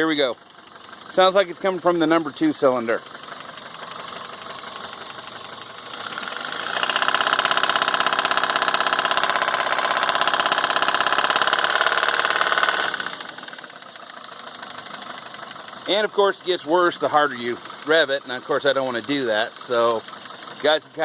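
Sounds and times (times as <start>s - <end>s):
car engine knocking and revving: 0.0s - 21.0s.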